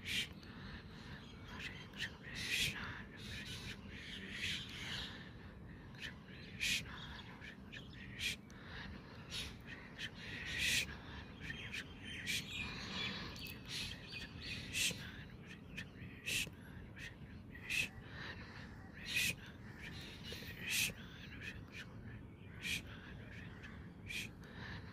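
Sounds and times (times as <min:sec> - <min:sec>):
birds calling: 0:00.0 - 0:24.9.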